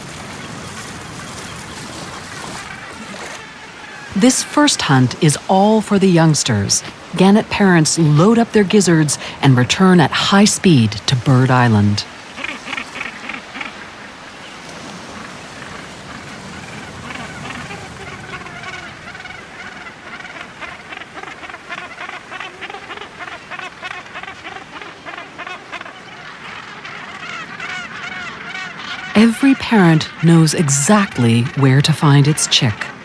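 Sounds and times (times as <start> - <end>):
seabird colony calling: 0.0 - 33.0.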